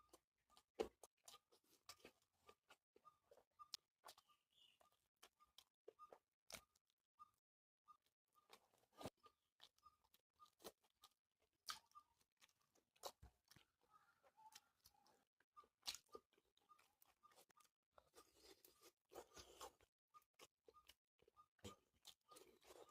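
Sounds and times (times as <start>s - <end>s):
chewing and crunching food: 0.0s - 22.9s.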